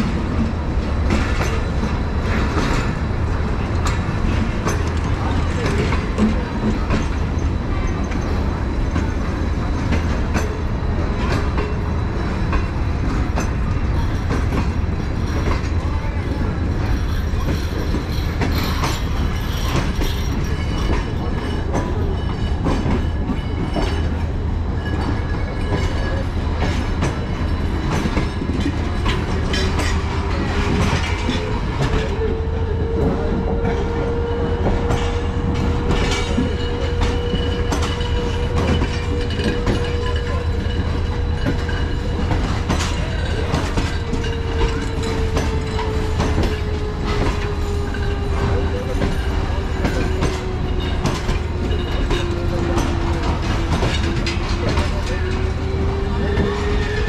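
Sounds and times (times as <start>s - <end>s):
train rumbling on track: 0.0s - 57.0s
wheels clacking over rail joints: 0.0s - 57.0s.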